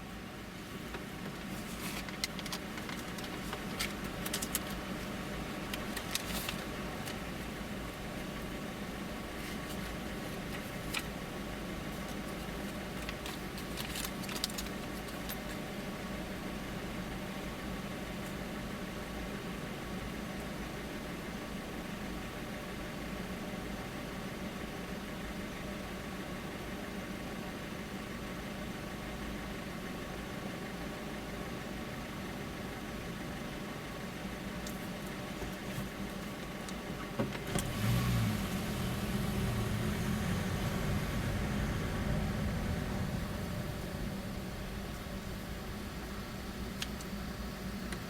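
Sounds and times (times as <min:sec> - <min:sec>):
car engine humming at low revs: 0:00.0 - 0:48.0.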